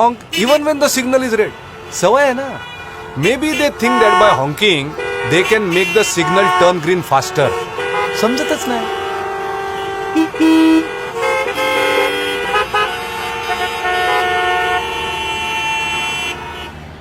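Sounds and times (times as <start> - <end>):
many vehicle horns honking: 0.0 - 17.0
loud low horn blast: 0.3 - 17.0.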